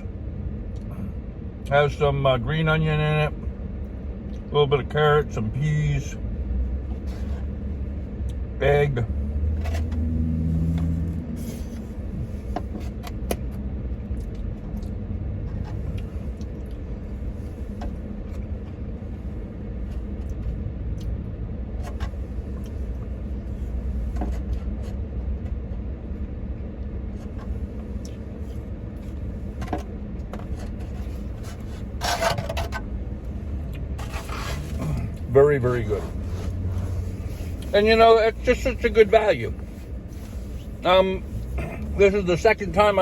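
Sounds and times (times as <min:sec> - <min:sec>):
vehicle idling rumble: 0:00.0 - 0:43.0.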